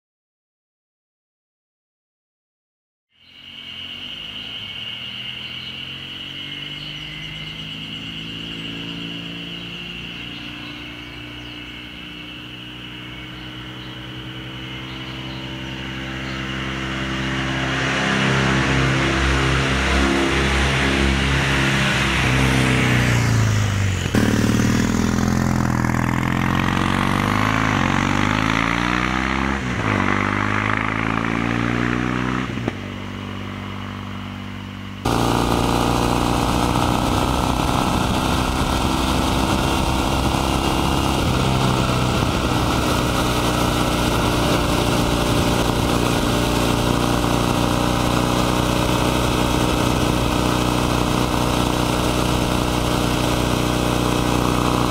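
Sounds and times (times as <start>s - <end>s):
motorcycle engine and exhaust: 3.1s - 54.9s.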